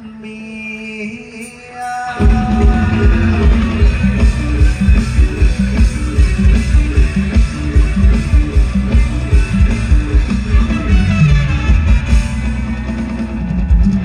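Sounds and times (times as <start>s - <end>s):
instrumental band music: 2.0s - 14.0s.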